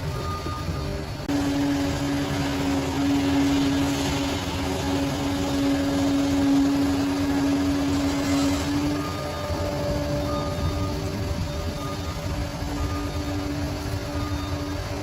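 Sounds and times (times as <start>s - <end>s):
bulldozer diesel engine running: 0.0s - 15.0s
steady whine: 0.0s - 15.0s.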